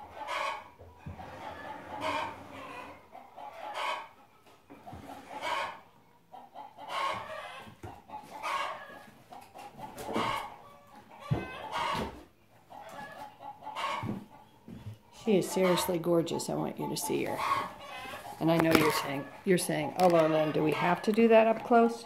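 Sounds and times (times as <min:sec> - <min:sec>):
chicken clucking: 0:00.0 - 0:22.0.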